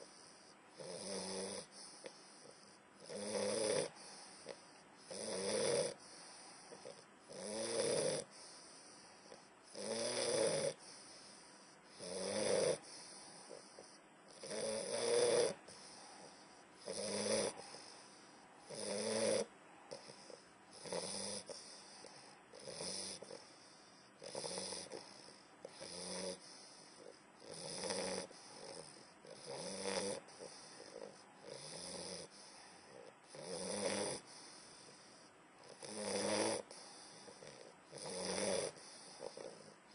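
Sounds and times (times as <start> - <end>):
dog snoring: 0.0 - 39.9.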